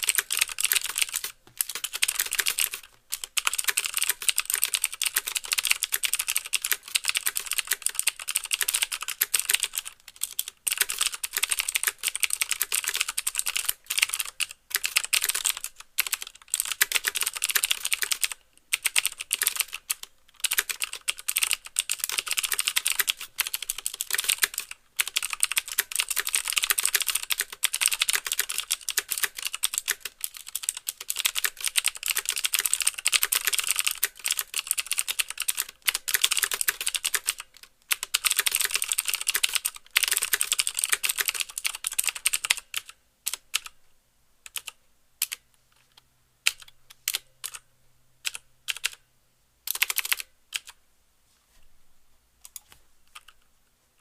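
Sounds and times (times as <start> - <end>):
typing on mechanical keyboard: 0.0 - 43.8, 44.5 - 45.4, 46.5 - 49.0, 49.7 - 50.8, 52.4 - 53.4.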